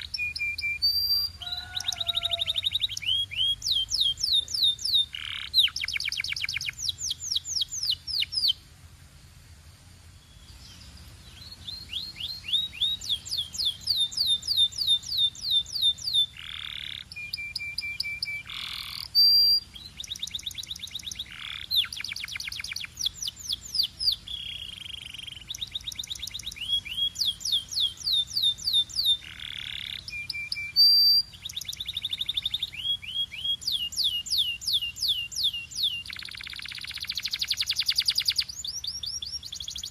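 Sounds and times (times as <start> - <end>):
canary singing trills: 0.0 - 8.6, 10.2 - 39.9.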